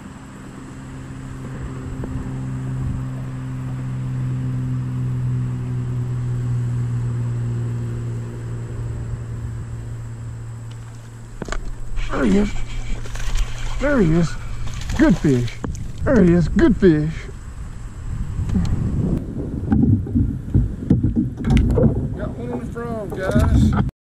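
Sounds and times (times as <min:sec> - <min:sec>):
electric trolling motor humming: 0:00.0 - 0:23.7.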